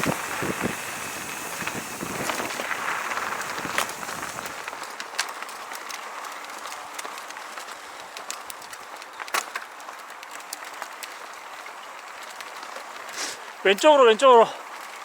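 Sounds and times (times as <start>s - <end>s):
bicycle clicks and rattles: 0.0s - 13.1s
bicycle tyres on gravel: 0.0s - 15.0s.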